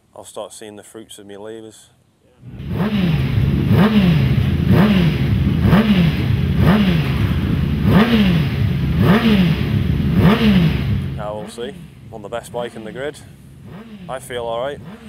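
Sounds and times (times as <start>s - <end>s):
motorcycle engine revving: 2.4s - 15.0s.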